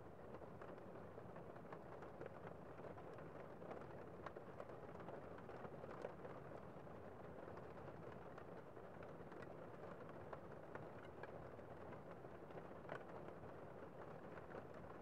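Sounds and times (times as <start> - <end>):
rain patter on a window: 0.0 - 15.0.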